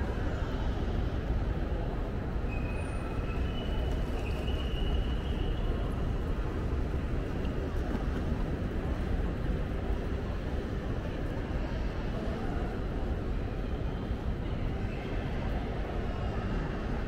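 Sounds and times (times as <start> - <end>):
train station rumble: 0.0 - 17.0.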